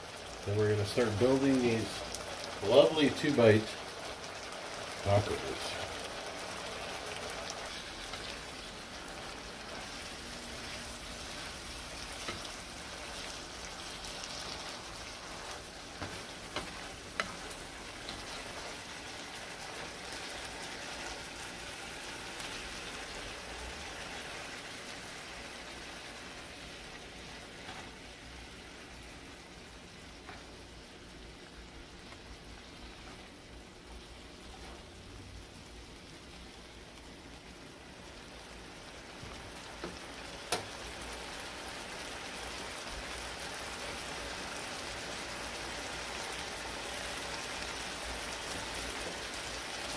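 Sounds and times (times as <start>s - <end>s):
meat sizzling in a skillet: 0.0s - 49.9s.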